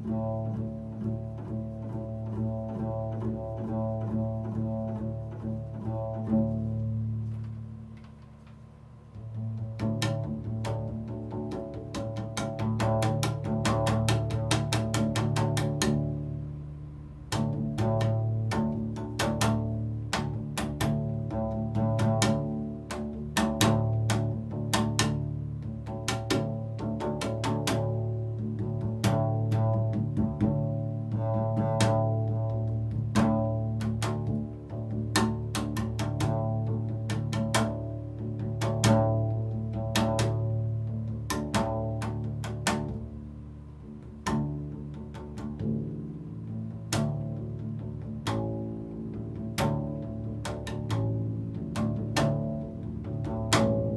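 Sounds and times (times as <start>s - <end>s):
double bass struck with mallet: 0.0s - 53.9s.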